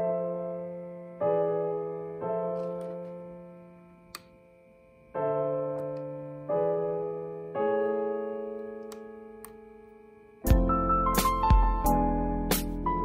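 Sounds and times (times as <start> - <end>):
slow electric piano chords: 0.0 - 13.0.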